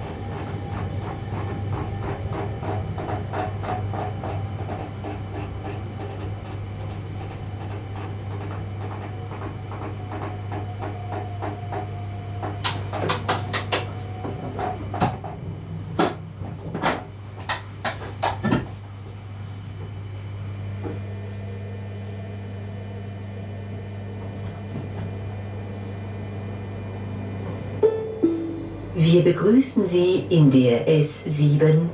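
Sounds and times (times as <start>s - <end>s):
electric train humming: 0.0s - 31.9s.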